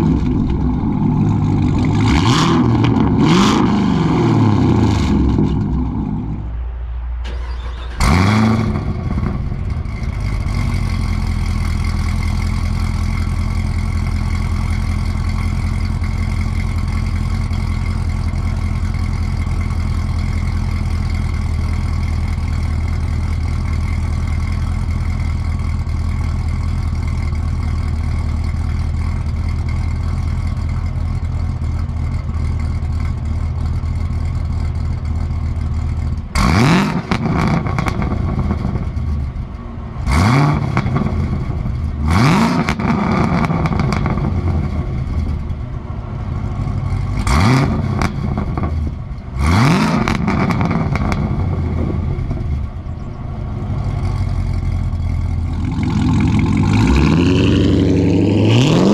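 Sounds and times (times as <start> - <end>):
car engine starting and idling: 0.0 - 58.9.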